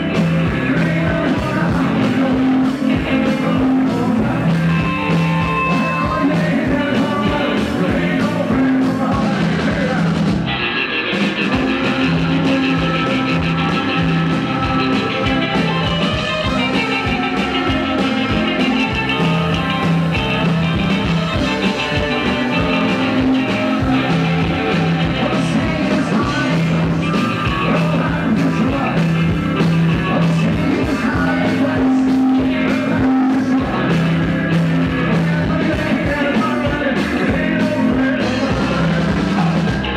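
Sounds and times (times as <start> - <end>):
man singing: 0.0 - 10.6, 11.3 - 39.9
drums: 0.0 - 39.9
electric guitar: 0.0 - 39.9
upright bass: 0.0 - 39.9.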